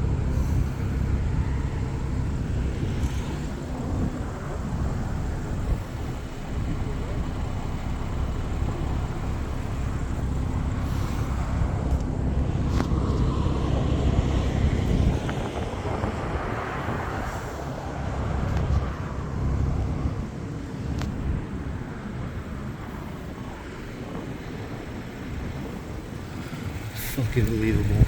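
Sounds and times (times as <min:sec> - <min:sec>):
road traffic passing: 0:00.0 - 0:28.0
wind on microphone: 0:00.0 - 0:28.0.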